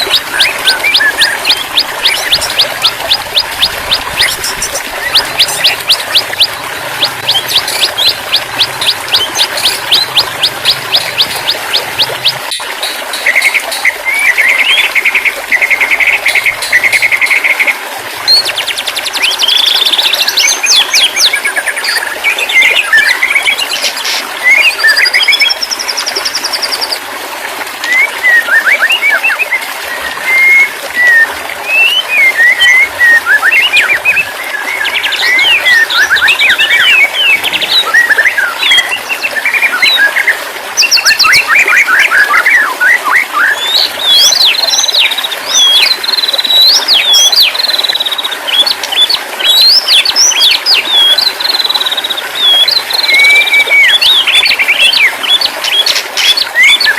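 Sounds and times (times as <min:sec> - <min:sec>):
songbird whistles and trills: 0:00.0 - 0:27.0, 0:27.8 - 0:56.9.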